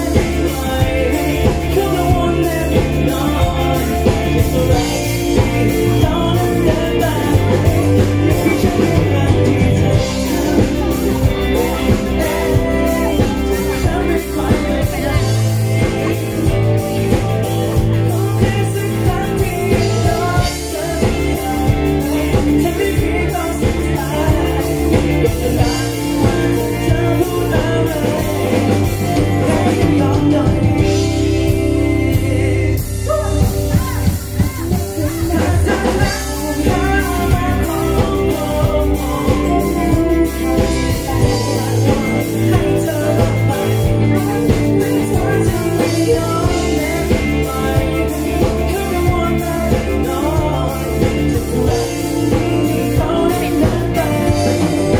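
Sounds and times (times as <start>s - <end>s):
drums: 0.0s - 54.9s
guitar: 0.0s - 54.9s
person singing into a microphone: 0.0s - 54.9s.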